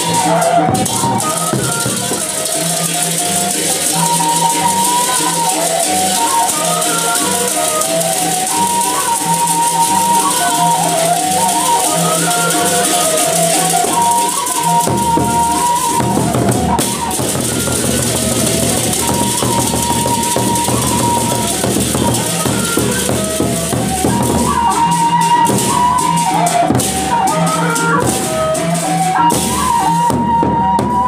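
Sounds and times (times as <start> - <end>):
big drums: 0.0 - 31.0
high wavering melody: 0.0 - 31.0.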